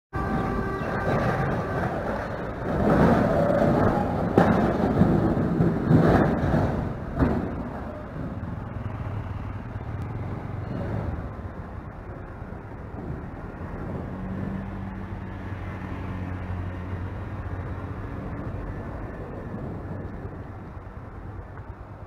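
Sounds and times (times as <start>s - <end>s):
road noise: 0.1s - 22.0s
vehicle engine humming: 0.1s - 22.0s.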